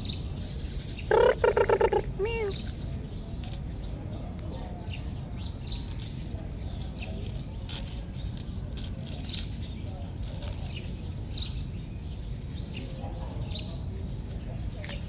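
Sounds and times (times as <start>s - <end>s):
low rumble of wind: 0.0s - 15.0s
small birds chirping: 0.0s - 15.0s.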